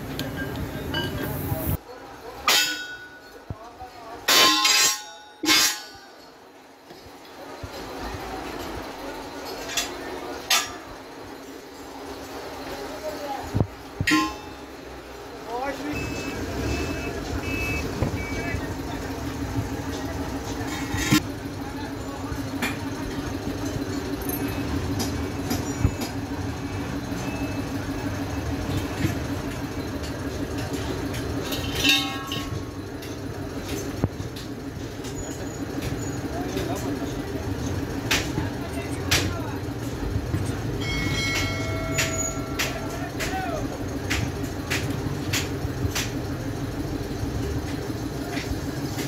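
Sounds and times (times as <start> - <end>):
engine droning at idle: 6.1 - 49.0.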